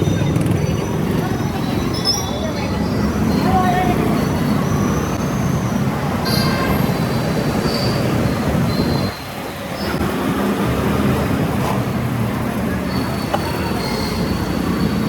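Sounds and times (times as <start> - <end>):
rumble of moving vehicles: 0.0 - 15.0.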